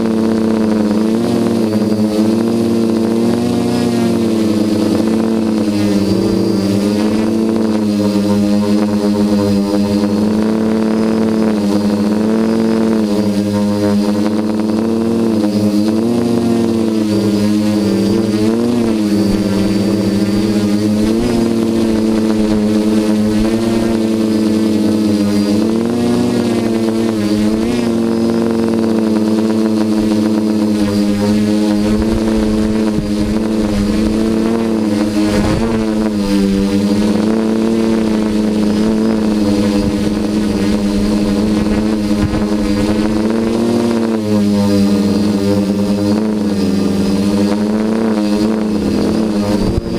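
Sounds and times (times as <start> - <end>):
drone propellers buzzing: 0.0 - 49.9.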